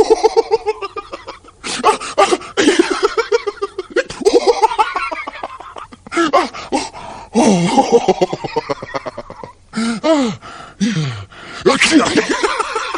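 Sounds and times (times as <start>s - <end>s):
person laughing hard: 0.0s - 9.6s, 11.9s - 12.9s.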